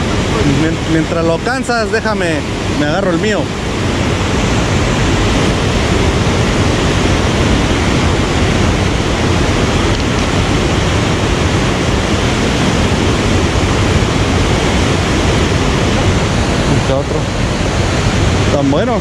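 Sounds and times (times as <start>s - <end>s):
rush of flowing water: 0.0s - 19.0s.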